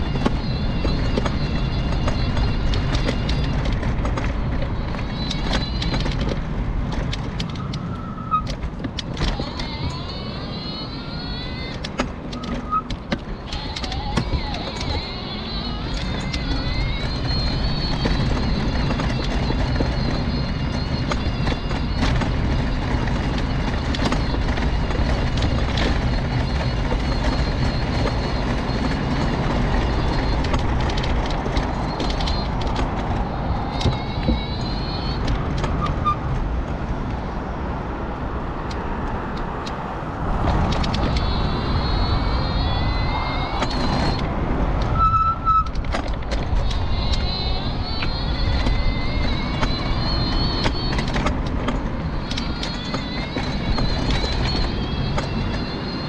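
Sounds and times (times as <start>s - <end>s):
wheels rumbling on paving: 0.0s - 56.0s.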